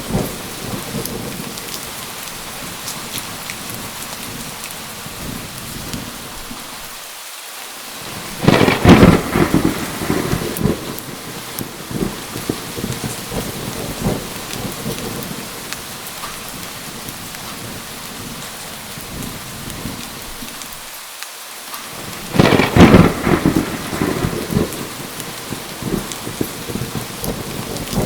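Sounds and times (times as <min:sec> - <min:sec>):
thunder crack and rumble: 0:00.0 - 0:06.5, 0:08.1 - 0:20.6, 0:22.0 - 0:28.0
heavy rain falling: 0:00.0 - 0:28.0.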